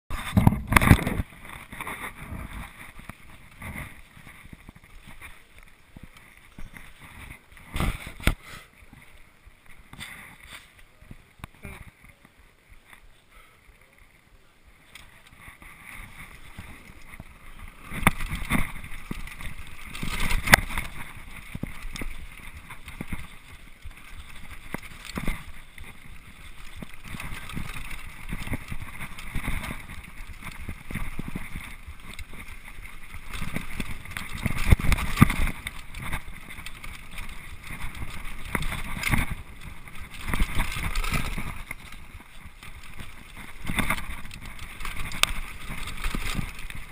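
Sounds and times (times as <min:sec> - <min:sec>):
bike and tyres rattling: 0:00.1 - 0:46.9.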